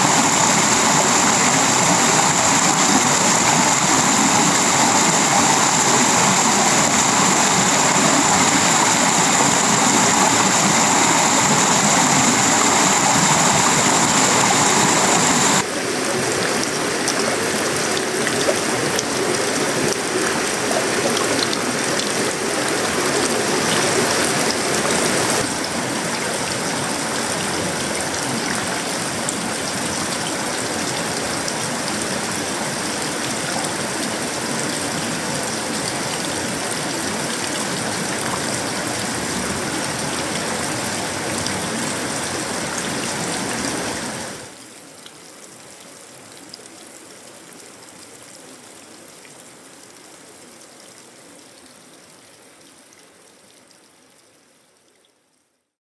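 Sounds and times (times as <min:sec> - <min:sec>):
heavy rain on a metal roof: 0:00.0 - 0:47.2.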